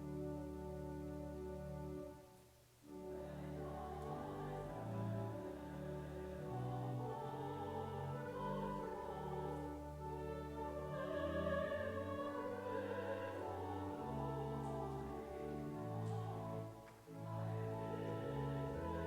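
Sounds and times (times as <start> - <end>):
people singing a hymn: 3.0 - 19.0.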